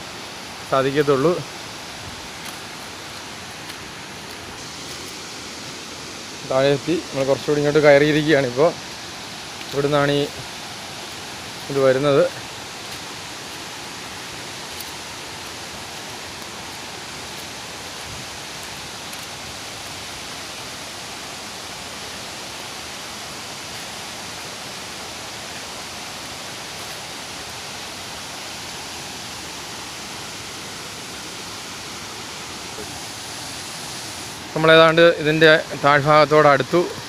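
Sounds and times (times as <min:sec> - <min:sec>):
stream waterfall rushing: 0:00.0 - 0:37.0.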